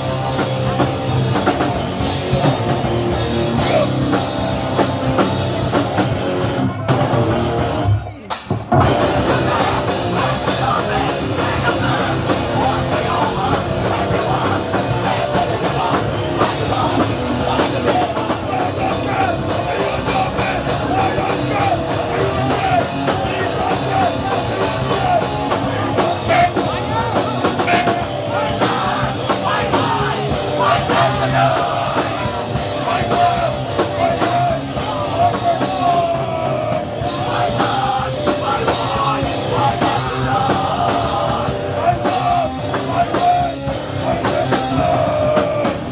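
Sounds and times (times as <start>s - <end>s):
distorted guitar and bass: 0.0s - 8.0s, 8.7s - 45.9s
drum kit: 0.0s - 45.9s
vocals: 0.0s - 45.9s.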